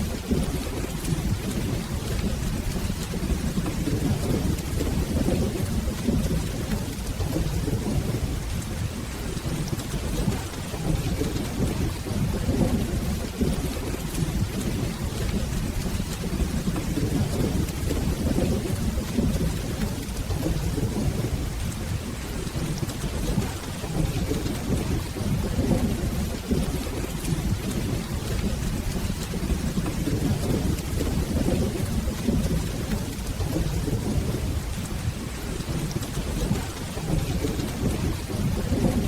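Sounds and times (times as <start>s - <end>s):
soft rolling thunder: 0.0s - 39.0s
steady rain: 0.0s - 39.0s.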